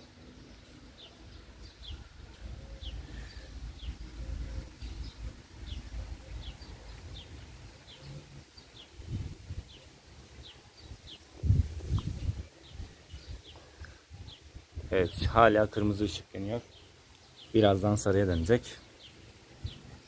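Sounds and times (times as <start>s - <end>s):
small bird chirping: 0.4s - 20.0s.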